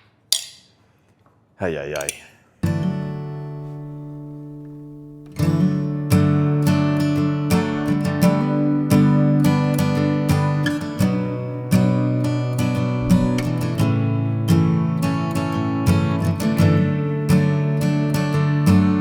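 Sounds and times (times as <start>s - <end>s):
acoustic guitar strummed chords: 2.6s - 19.0s.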